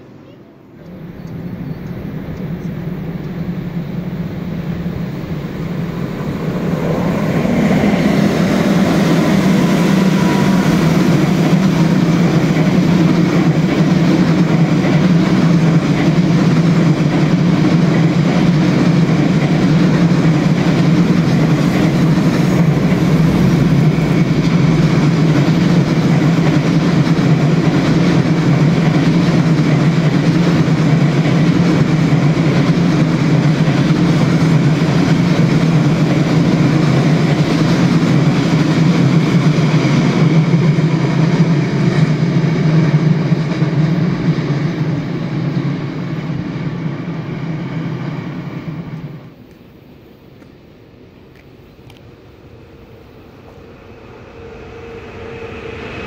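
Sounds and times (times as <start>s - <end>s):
freight train wheels on track: 0.0s - 56.0s.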